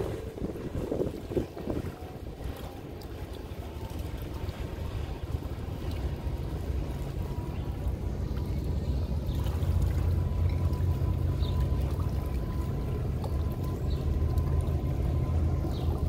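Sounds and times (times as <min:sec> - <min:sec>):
steady low rumble: 0:00.0 - 0:16.0
water lapping against hull and dock: 0:00.0 - 0:16.0.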